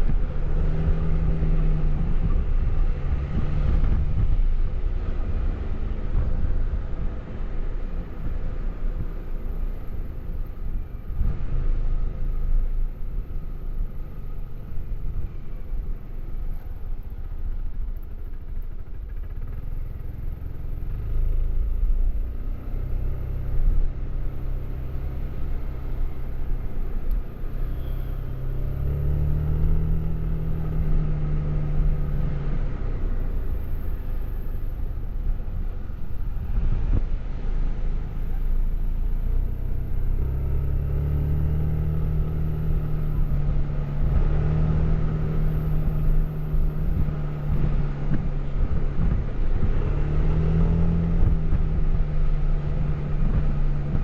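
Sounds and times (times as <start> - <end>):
road rumble: 0.0 - 54.0
wind: 0.0 - 54.0.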